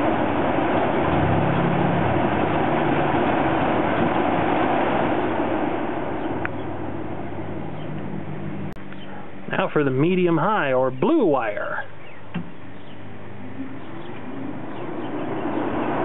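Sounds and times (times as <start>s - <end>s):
furnace blower running: 0.0s - 16.0s.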